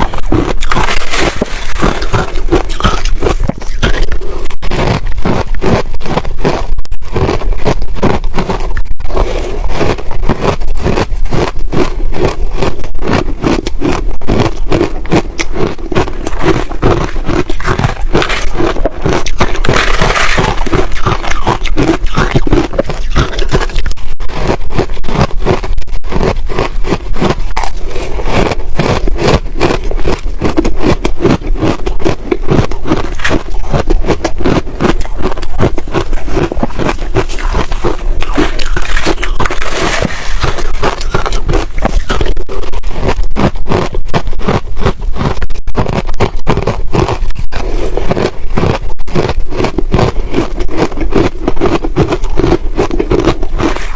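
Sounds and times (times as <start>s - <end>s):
ice being chewed: 0.0s - 53.9s.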